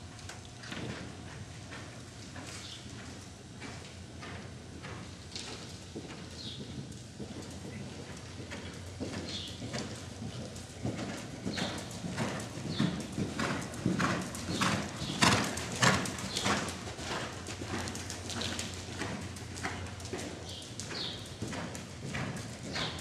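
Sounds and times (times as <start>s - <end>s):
horse cantering on sand: 0.2s - 23.0s.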